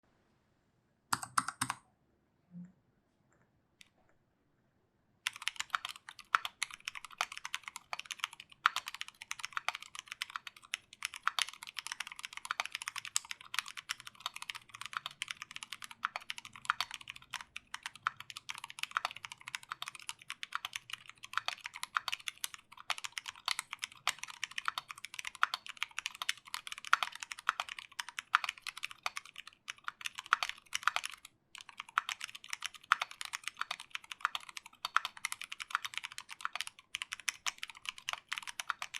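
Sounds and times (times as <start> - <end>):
mechanical keyboard typing: 1.1 - 1.8, 5.2 - 38.9.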